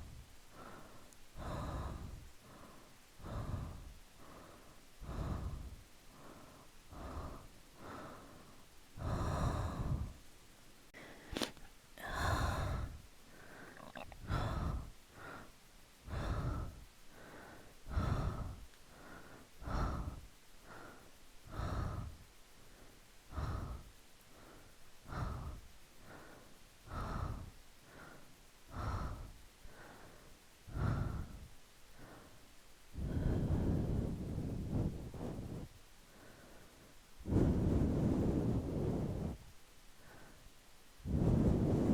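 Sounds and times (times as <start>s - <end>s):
close breathing: 0.0s - 41.9s.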